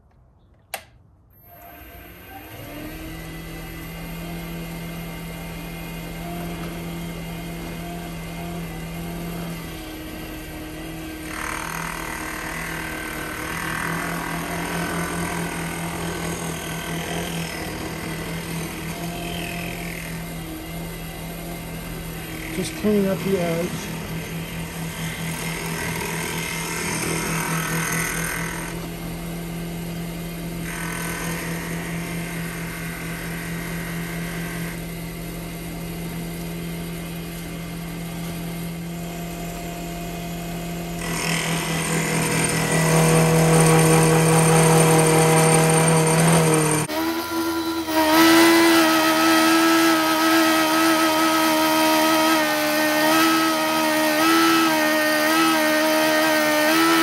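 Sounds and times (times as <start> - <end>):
tool cutting spinning wood: 1.4 - 57.0
wood lathe motor running: 1.4 - 57.0.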